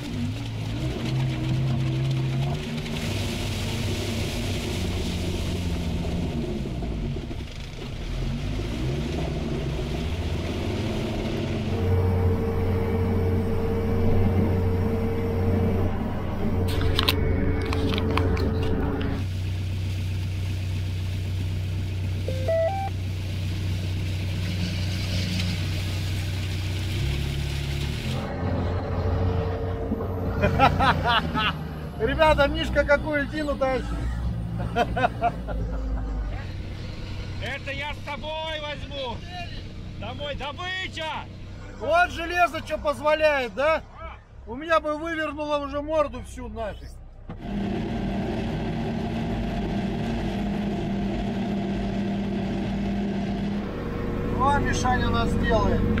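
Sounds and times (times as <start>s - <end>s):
diesel engine running: 0.0s - 44.4s, 46.9s - 56.0s.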